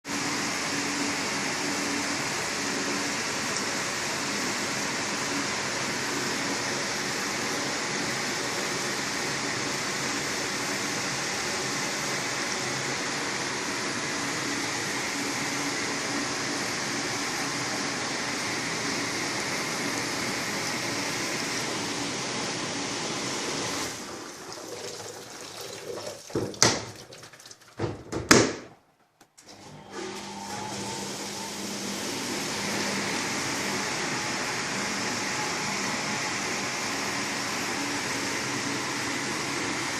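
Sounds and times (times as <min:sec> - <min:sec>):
dishwasher water spraying: 0:00.2 - 0:28.0, 0:29.6 - 0:35.6.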